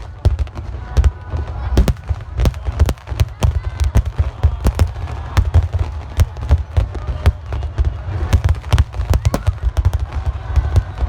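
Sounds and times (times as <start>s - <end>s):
deep firework booms: 0.0s - 11.0s
firework cracks: 0.0s - 11.0s.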